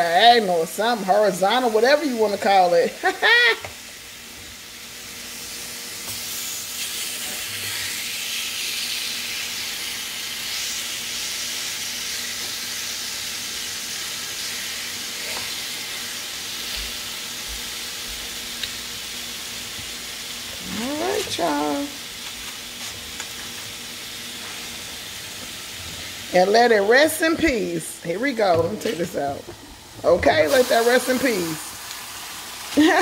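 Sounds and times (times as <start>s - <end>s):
chicken sizzling on a grill: 0.0s - 33.0s.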